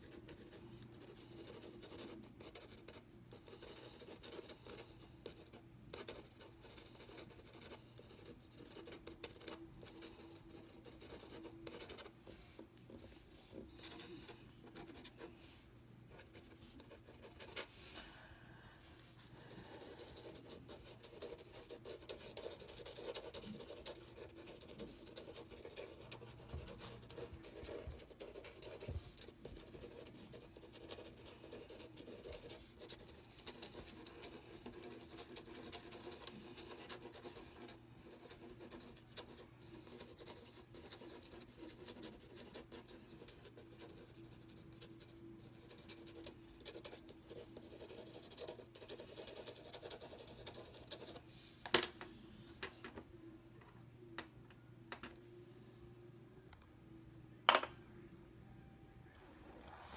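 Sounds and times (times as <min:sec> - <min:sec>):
pencil scribbling on paper: 0:00.0 - 0:15.3, 0:16.1 - 0:17.8, 0:19.2 - 0:51.2.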